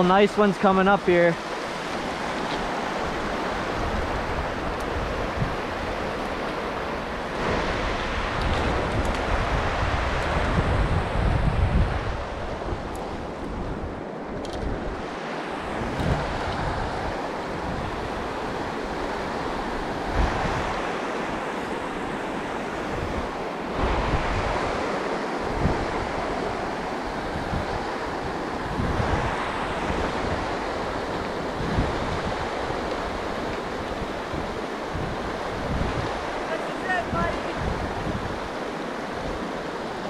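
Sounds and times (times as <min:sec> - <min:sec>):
river water rushing over rocks: 0:00.0 - 0:40.0
wind buffeting microphone: 0:01.4 - 0:40.0.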